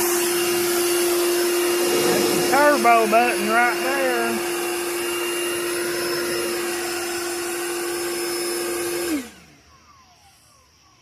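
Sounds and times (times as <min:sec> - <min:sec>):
leaf blower whining: 0:00.0 - 0:09.7
leaf blower spinning down: 0:00.0 - 0:10.4.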